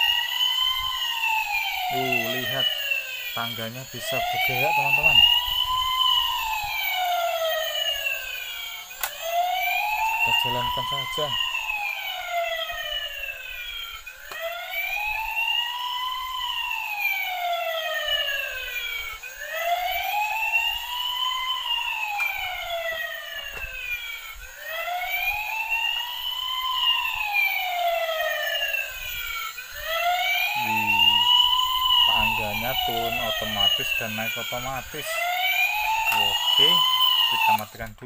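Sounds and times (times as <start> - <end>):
toy siren wailing: 0.0 - 38.0.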